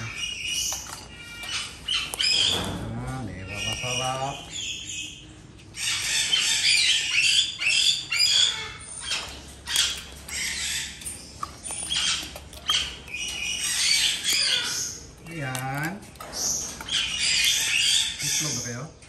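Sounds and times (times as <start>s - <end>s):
macaws squawking: 0.0s - 5.2s, 5.8s - 18.9s.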